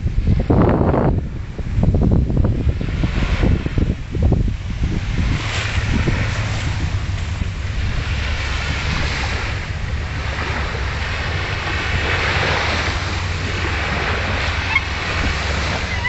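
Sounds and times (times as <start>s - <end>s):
small waves washing onto shore: 0.0s - 16.0s
wind on microphone: 0.0s - 16.0s.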